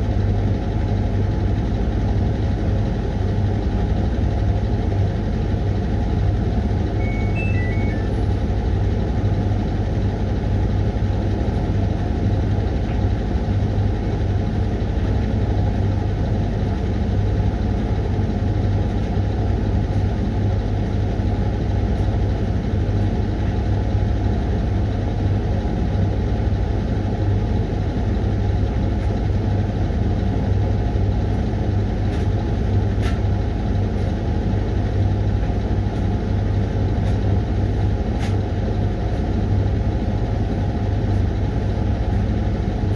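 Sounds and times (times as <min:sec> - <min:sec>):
washing machine humming: 0:00.2 - 0:42.9.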